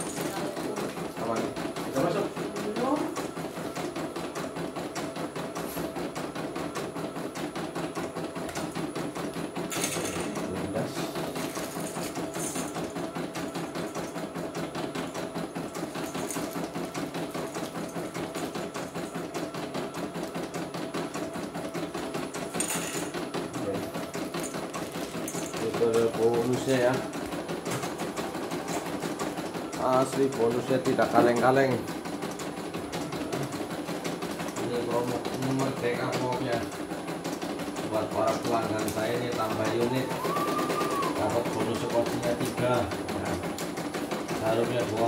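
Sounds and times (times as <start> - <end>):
embroidery machine stitching: 0.0 - 45.0.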